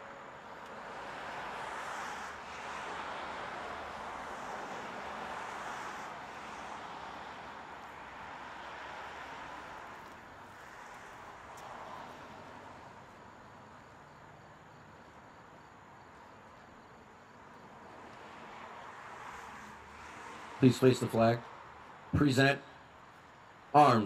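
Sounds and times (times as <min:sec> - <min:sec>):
crickets pulsing: 0:00.0 - 0:21.2
street traffic passing: 0:00.0 - 0:24.0.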